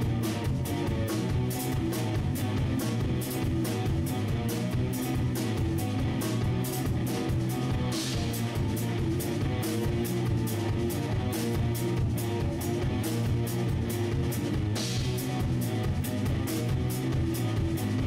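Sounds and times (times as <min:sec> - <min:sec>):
drum kit steady beat: 0:00.0 - 0:18.0
progressive rock guitar: 0:00.0 - 0:18.0.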